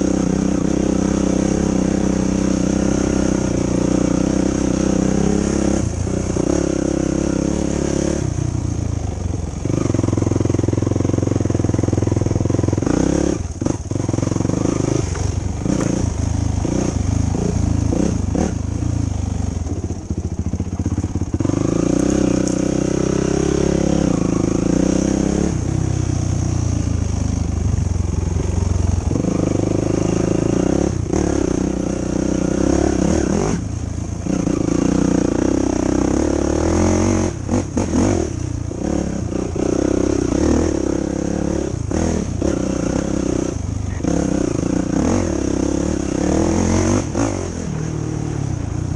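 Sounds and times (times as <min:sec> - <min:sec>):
quad engine revving: 0:00.0 - 0:48.9.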